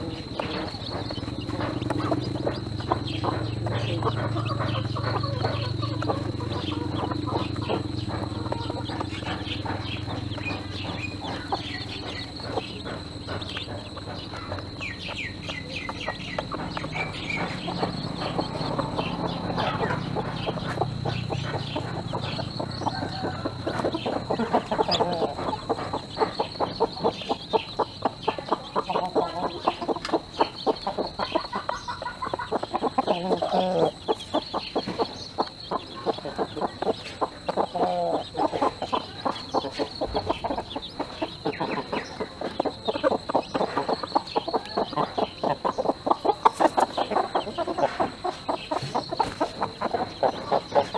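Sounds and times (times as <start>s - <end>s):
chickens pecking clicks: 0.0s - 50.9s
hen clucking: 0.0s - 50.9s.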